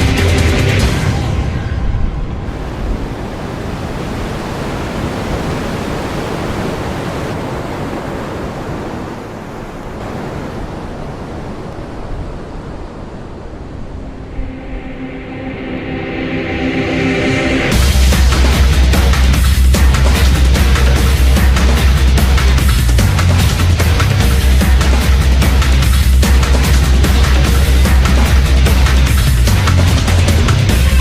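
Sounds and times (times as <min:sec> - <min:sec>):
loud rushing wind: 0:00.0 - 0:31.0.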